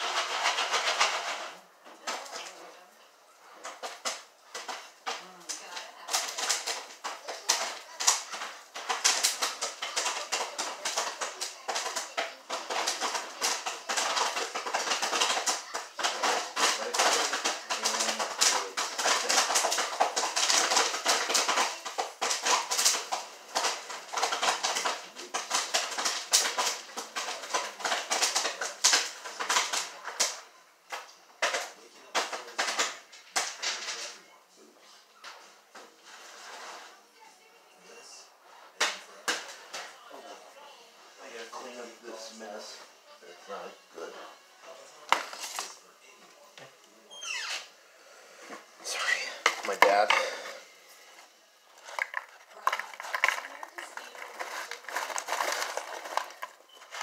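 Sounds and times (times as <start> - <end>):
popcorn popping: 0.0 - 37.0, 38.0 - 40.4, 44.8 - 47.7, 48.5 - 57.0.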